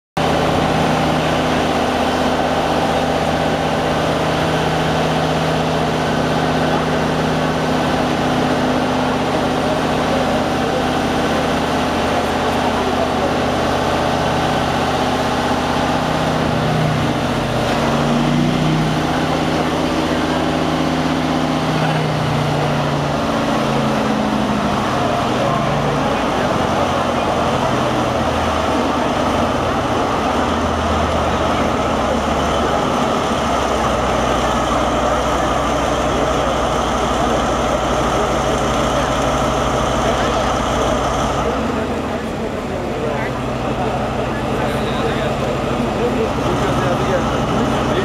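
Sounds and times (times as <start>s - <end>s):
diesel engine running under load: 0.2s - 48.0s.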